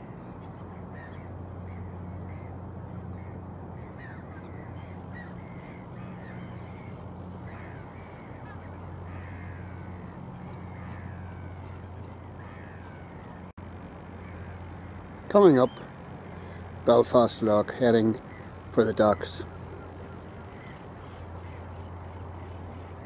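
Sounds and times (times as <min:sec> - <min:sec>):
harsh falling bird calls: 0:00.0 - 0:13.5, 0:14.1 - 0:23.0
low hum: 0:00.0 - 0:23.0.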